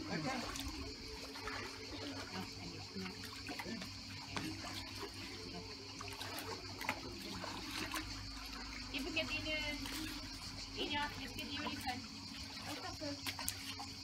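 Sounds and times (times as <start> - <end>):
pool water lapping and trickling: 0.0 - 14.0.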